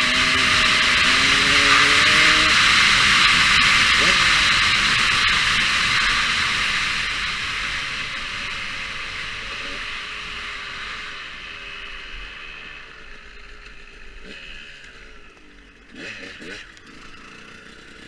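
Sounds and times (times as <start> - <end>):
motocross bike engine: 0.0 - 18.0.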